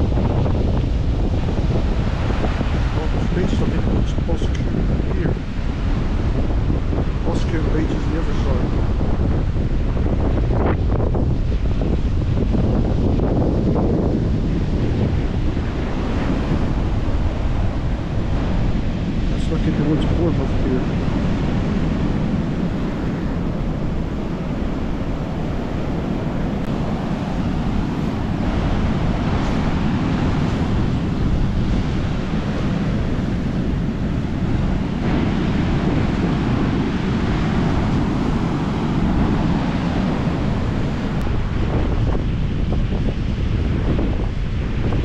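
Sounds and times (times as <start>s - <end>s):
surf breaking on beach: 0.0s - 45.0s
wind rumbling on microphone: 0.0s - 45.0s.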